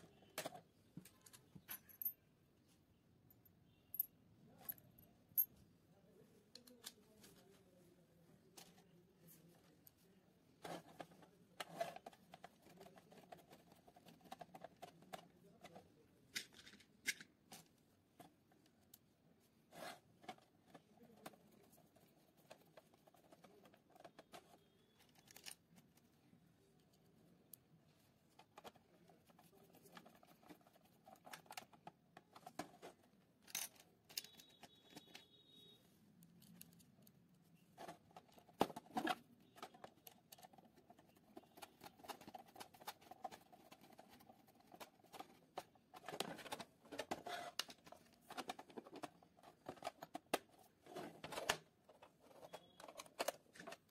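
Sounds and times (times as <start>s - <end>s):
plastic parts clicking and rubbing: 0.0s - 2.1s, 8.4s - 53.9s.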